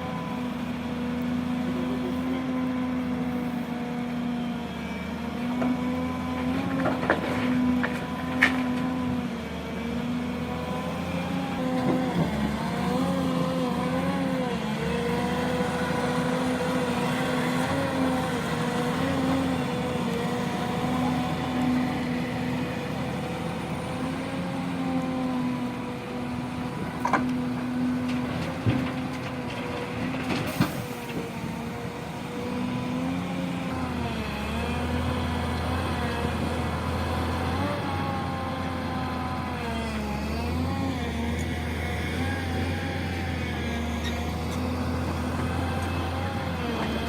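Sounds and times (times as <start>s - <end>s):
construction machine engine running: 0.0s - 47.0s.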